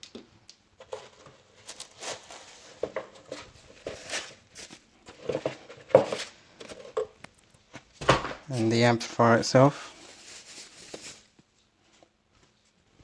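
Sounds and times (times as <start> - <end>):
packaging rustling and crinkling: 0.8 - 12.1.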